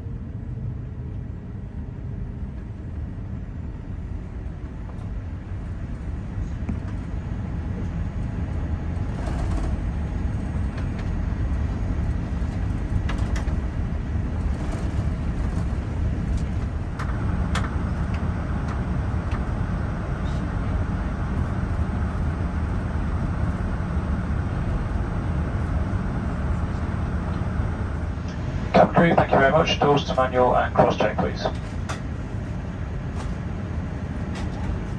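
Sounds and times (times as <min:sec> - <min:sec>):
aircraft cabin rumble: 0:00.0 - 0:34.9.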